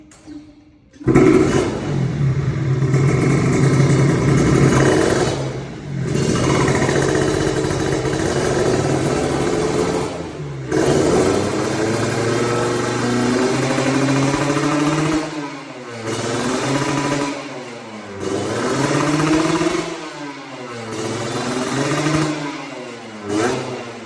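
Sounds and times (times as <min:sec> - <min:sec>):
motorcycle engine revving: 0:01.0 - 0:24.0.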